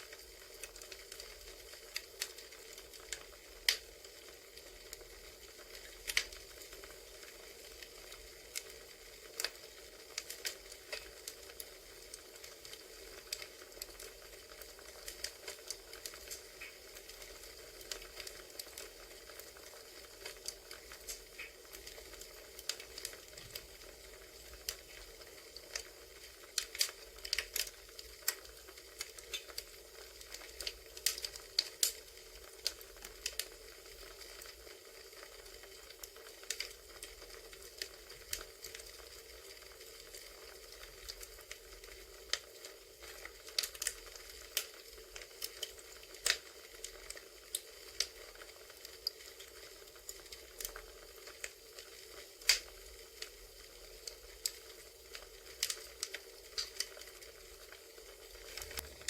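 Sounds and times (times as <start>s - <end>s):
steady hiss: 0.0s - 59.0s
wood fire crackling and popping: 0.0s - 59.0s.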